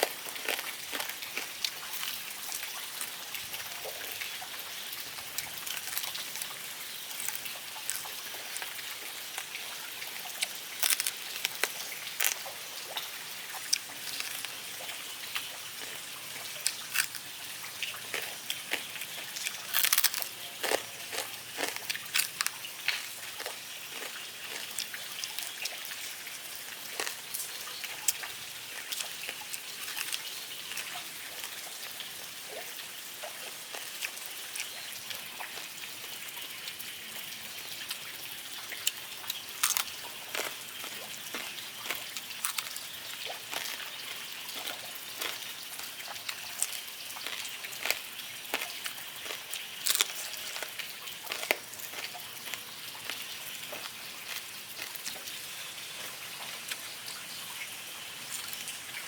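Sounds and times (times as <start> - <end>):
deep-frying sizzle with pops: 0.0 - 59.0.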